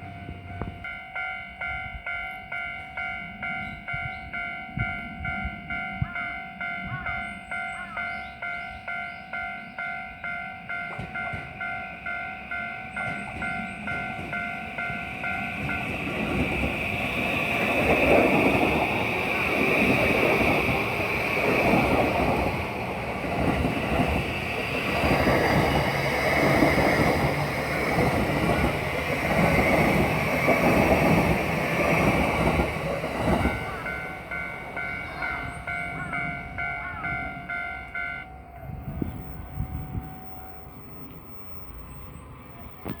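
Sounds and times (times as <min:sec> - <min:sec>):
train rumble and wheel clatter: 0:00.0 - 0:43.0.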